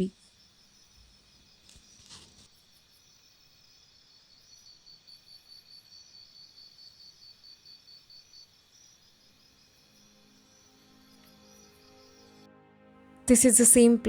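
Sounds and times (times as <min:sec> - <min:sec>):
insect high trill: 0:00.0 - 0:12.4
insect pulsing chirp: 0:00.0 - 0:12.4.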